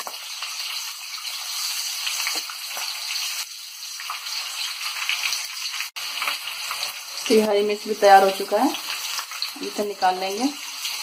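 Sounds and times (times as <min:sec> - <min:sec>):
chillies sizzling in hot oil: 0:00.0 - 0:11.0.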